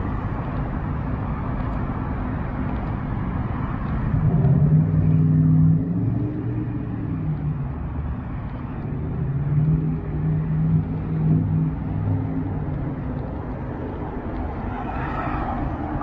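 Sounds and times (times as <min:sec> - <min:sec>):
city traffic noise: 0:00.0 - 0:16.0
vehicle engine hum: 0:00.0 - 0:16.0.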